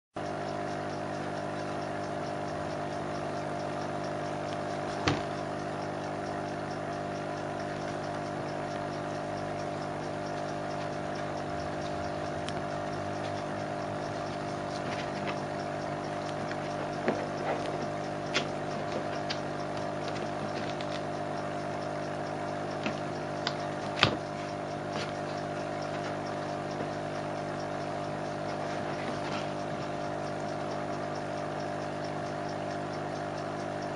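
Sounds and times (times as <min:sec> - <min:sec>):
steady mechanical hum: 0:00.2 - 0:33.9.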